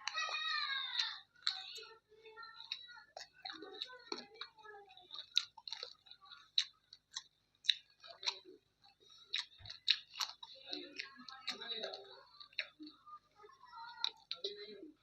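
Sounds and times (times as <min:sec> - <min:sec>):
chewing and wet mouth smacks: 0:00.0 - 0:15.0.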